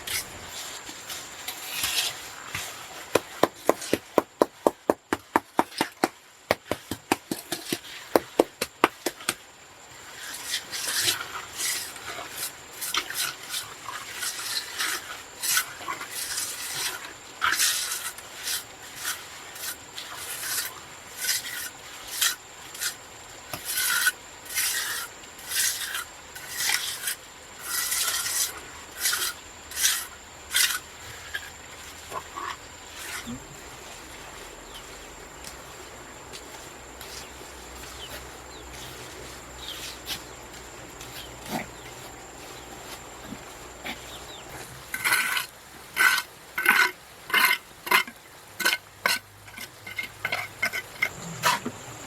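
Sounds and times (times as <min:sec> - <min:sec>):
rasping scraping strokes: 0:00.0 - 0:04.5, 0:10.0 - 0:51.9.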